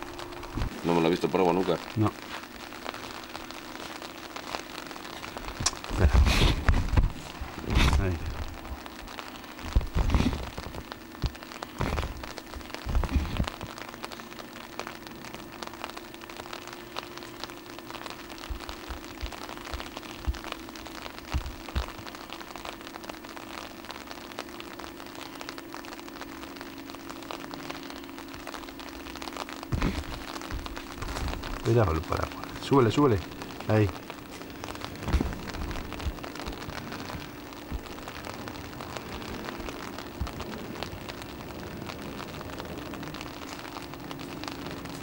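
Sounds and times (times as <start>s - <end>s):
low steady hum: 0.0s - 45.0s
steady rain patter: 0.0s - 45.0s.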